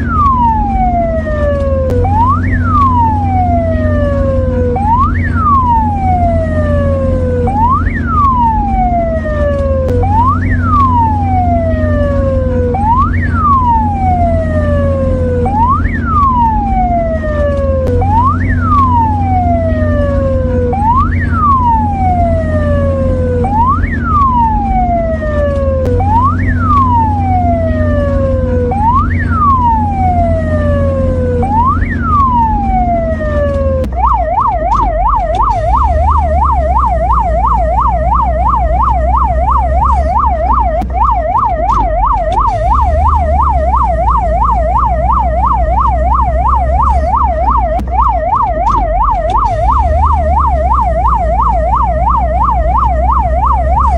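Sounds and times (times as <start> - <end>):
ambulance siren: 0.0 - 53.9.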